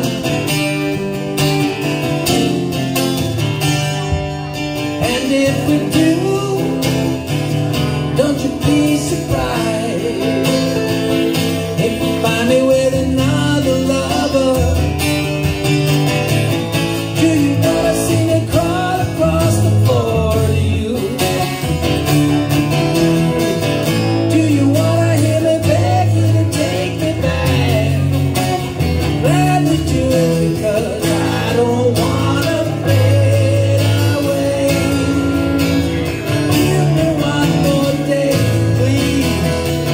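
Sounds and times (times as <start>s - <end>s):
acoustic guitar strumming: 0.0s - 39.9s
electric guitar lead lines: 0.0s - 39.9s.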